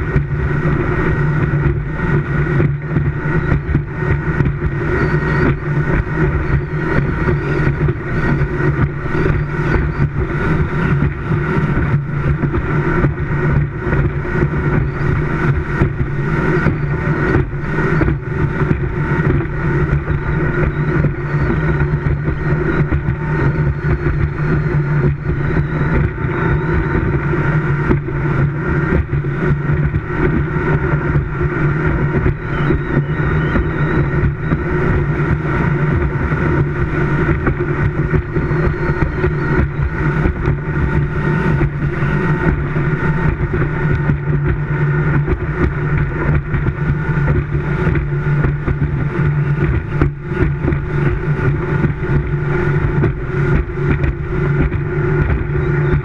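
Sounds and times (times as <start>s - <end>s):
speedboat engine at high speed: 0.0s - 56.0s
wind buffeting microphone: 0.0s - 56.0s.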